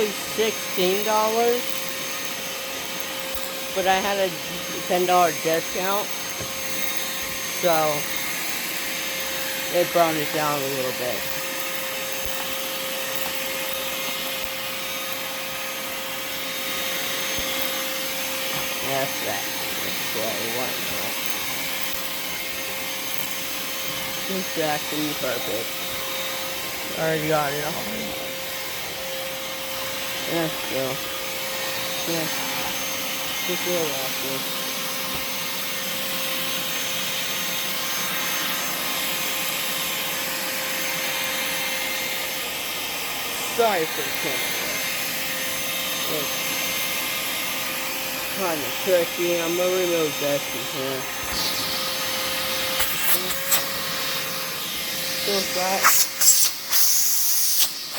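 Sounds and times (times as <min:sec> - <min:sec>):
shop vacuum running: 0:00.0 - 0:57.9.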